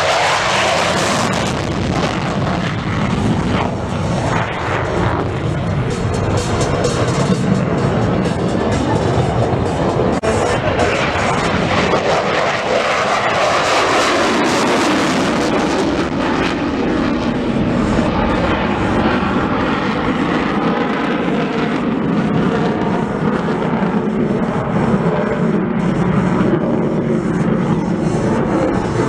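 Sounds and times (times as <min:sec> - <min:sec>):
airplane flying past: 0:00.0 - 0:29.0.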